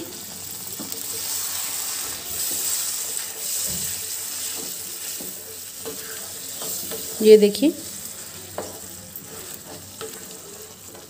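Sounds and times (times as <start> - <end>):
gravy sizzling and bubbling: 0.0 - 11.0
spatula scraping pan: 1.2 - 11.0.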